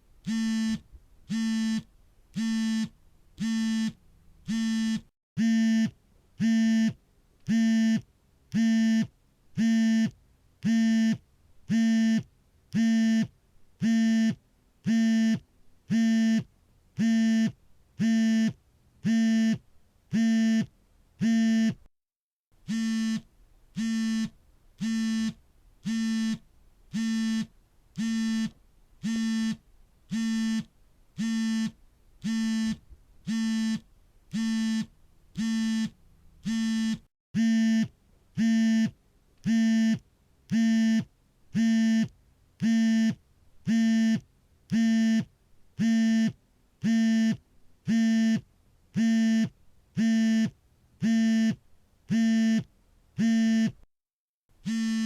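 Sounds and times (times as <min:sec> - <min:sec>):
smartphone vibrating buzzes: 0:00.3 - 0:21.8, 0:22.6 - 0:53.8, 0:54.6 - 0:55.0.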